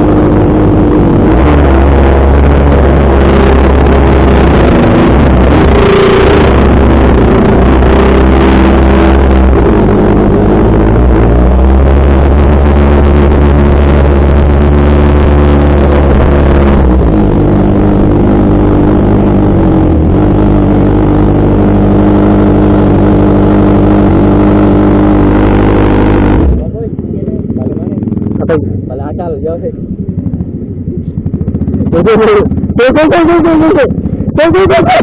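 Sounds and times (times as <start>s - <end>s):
motorcycle engine running loud: 0.0s - 35.0s.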